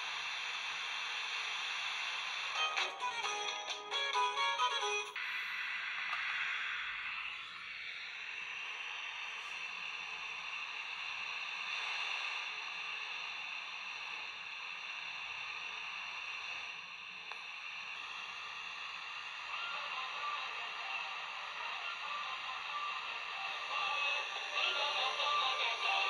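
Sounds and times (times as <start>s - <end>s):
radio static hiss: 0.0s - 2.6s, 5.2s - 26.0s.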